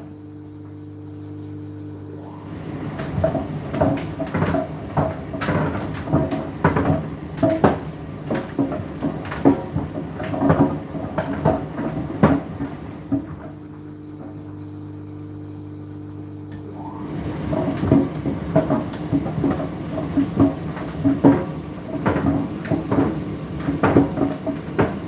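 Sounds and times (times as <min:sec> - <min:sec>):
dryer motor hum: 0:00.0 - 0:25.0
load tumbling in dryer drum: 0:02.5 - 0:14.6, 0:16.8 - 0:25.0.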